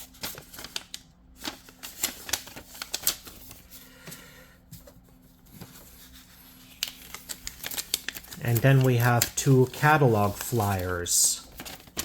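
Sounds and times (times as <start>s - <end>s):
paper flyers rustling: 0.0s - 12.0s.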